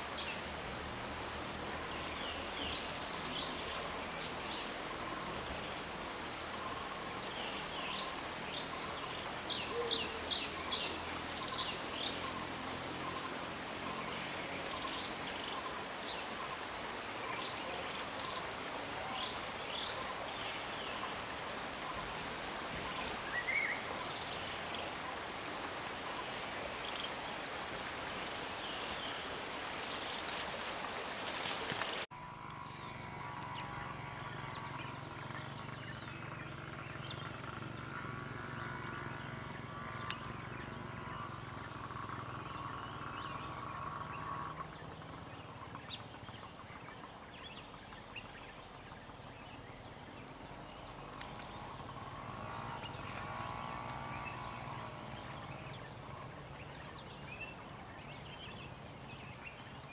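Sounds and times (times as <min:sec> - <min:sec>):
insect chorus drone: 0:00.0 - 0:59.9
open-air background: 0:00.0 - 0:59.9.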